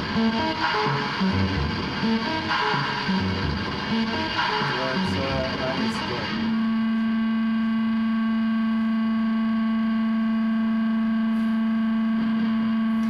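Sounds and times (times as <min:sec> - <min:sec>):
synthesizer drone: 0:00.0 - 0:13.0.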